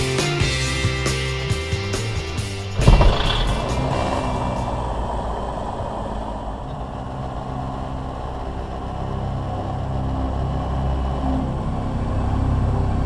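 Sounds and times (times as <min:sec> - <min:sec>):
light aircraft engine droning: 0:01.9 - 0:13.0.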